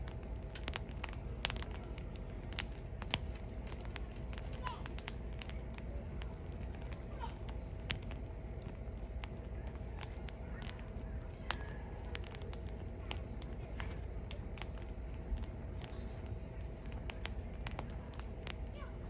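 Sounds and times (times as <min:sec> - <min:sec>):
firewood crackling and popping: 0:00.0 - 0:19.0
steady low rumble: 0:00.0 - 0:19.0.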